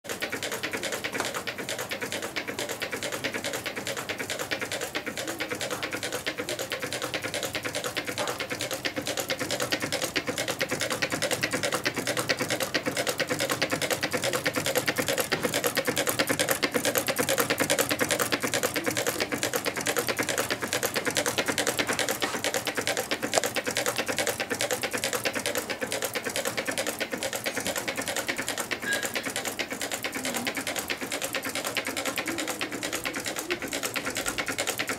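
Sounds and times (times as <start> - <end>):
stirling engine clicking: 0.1 - 34.9.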